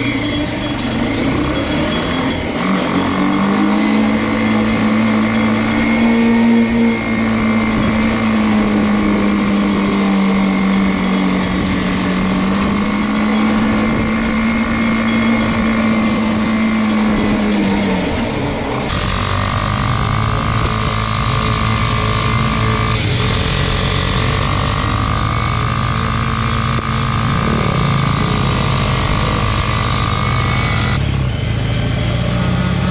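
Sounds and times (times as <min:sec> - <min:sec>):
small engine running under load: 0:00.0 - 0:32.9.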